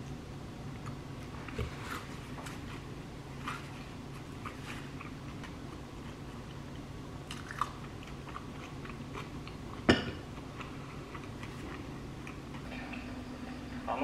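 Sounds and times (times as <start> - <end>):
low steady hum: 0.0 - 14.0
crunchy chewing: 0.8 - 12.6.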